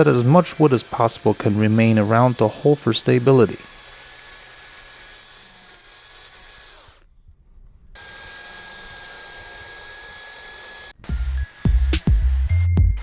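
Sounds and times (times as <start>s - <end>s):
chainsaw cutting wood: 0.0s - 7.1s, 8.0s - 12.6s.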